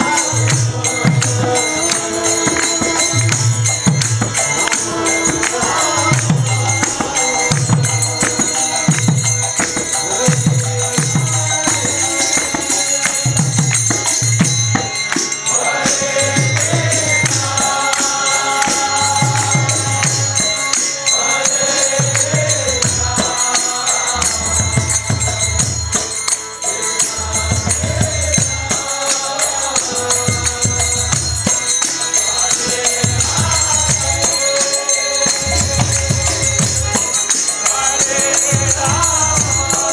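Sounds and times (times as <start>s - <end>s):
jingling metal hand percussion: 0.0s - 39.9s
voices chanting: 0.0s - 39.9s.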